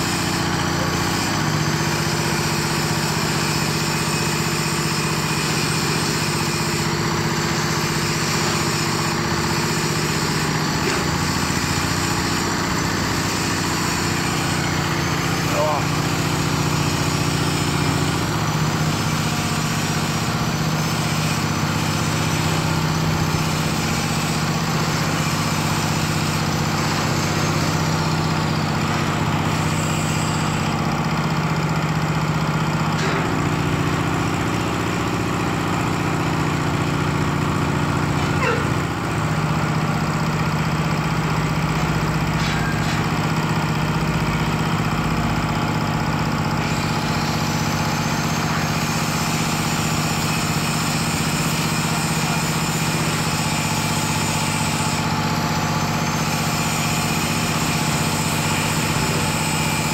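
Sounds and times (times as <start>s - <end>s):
hoist engine running: 0.0s - 59.9s.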